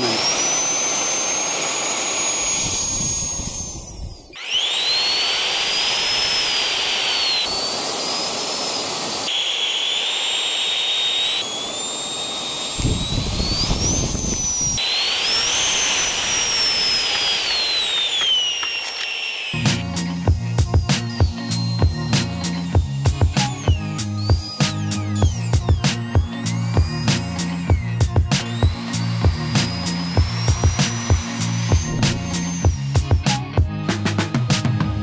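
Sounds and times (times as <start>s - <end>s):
electric fan high whine: 0.0s - 33.8s.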